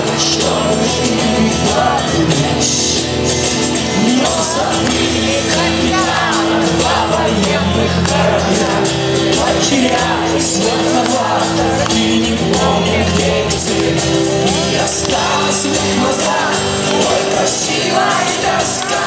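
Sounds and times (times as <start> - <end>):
live rock band playing: 0.0 - 19.0
people singing: 0.0 - 19.0.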